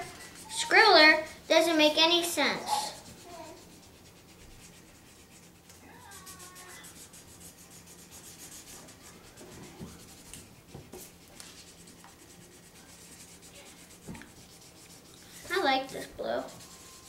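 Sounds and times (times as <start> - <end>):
markers scratching on paper: 0.0 - 17.0.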